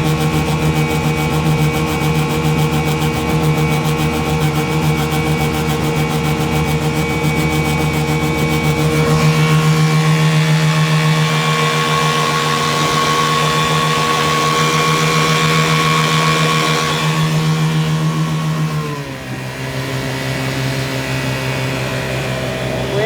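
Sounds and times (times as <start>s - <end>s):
outboard motor droning: 0.0s - 23.0s.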